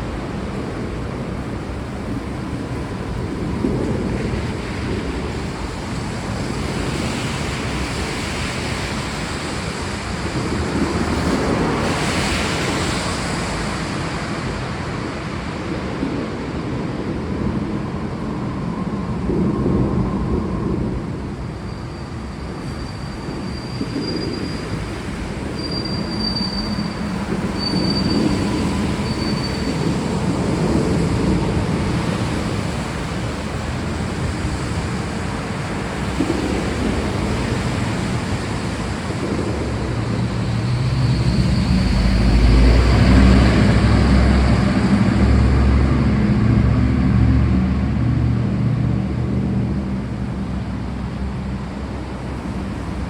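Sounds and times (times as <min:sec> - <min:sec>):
low rolling thunder: 0:00.0 - 0:53.0
steady rain: 0:00.0 - 0:53.0.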